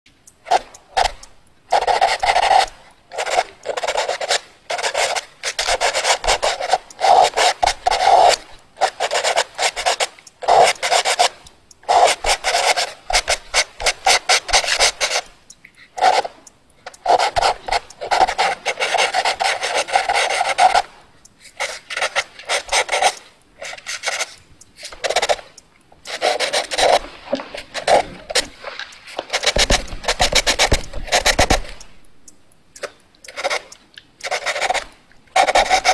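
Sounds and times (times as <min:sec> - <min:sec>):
drawing tool rasping on surface: 0:00.5 - 0:15.3, 0:16.0 - 0:16.3, 0:17.0 - 0:20.9, 0:21.6 - 0:25.4, 0:26.1 - 0:28.6, 0:29.2 - 0:31.8, 0:33.3 - 0:35.9.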